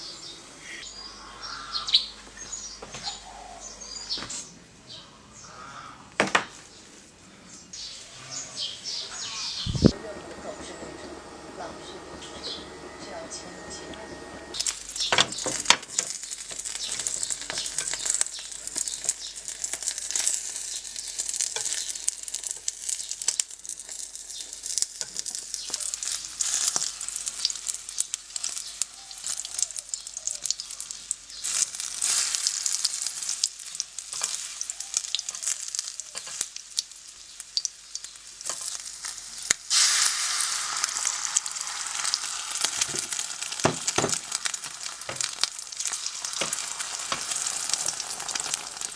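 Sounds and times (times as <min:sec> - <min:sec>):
food sizzling in hot oil: 0:07.8 - 0:48.9.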